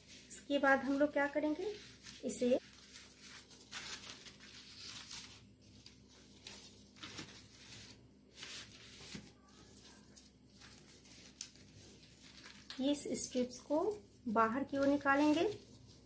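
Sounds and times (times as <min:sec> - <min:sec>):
paper strips rustling: 0:00.9 - 0:16.0.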